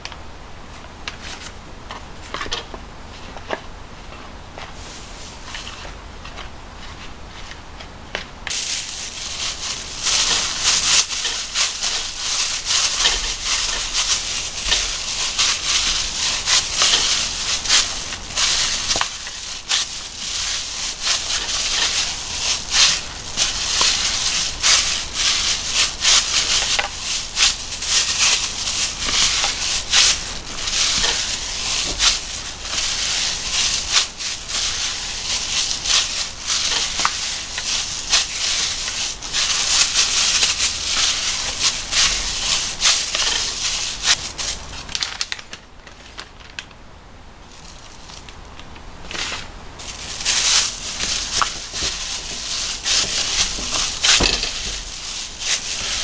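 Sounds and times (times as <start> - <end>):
plastic bag crinkling and rustling: 0.8 - 46.8, 47.4 - 56.0.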